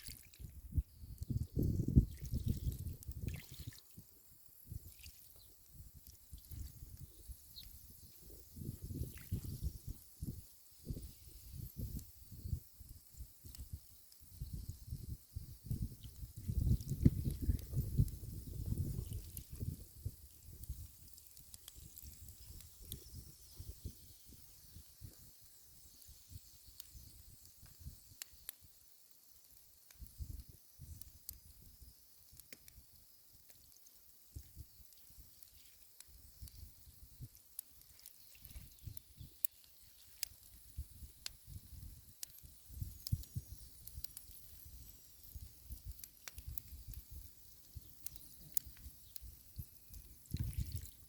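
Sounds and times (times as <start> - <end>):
steady high hiss: 0.0 - 50.9.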